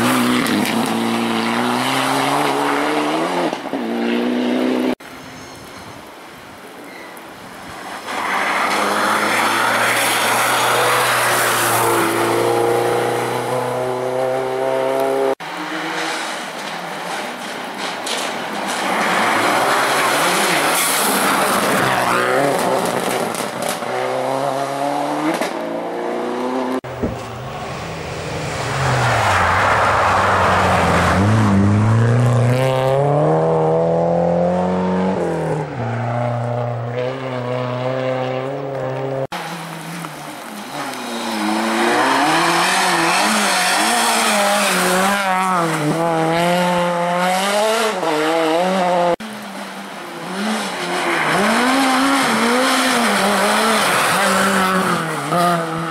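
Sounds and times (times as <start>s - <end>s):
rally car engines revving: 0.0s - 5.0s, 8.2s - 17.6s, 18.5s - 55.9s.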